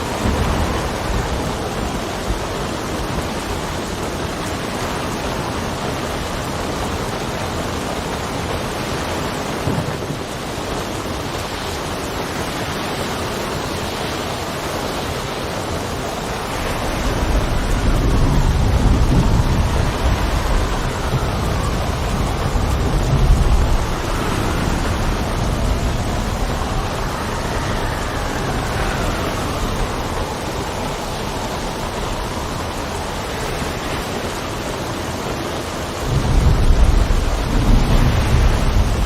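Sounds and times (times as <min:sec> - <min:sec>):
heavy rain: 0:00.0 - 0:39.0
thunder rumbling: 0:00.0 - 0:39.0
wind: 0:00.0 - 0:39.0.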